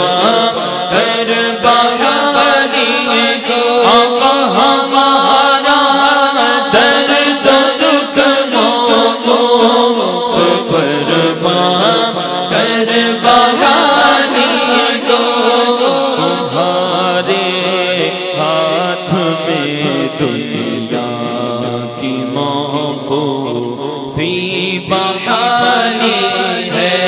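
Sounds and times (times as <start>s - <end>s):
man singing into microphone: 0.0s - 27.0s.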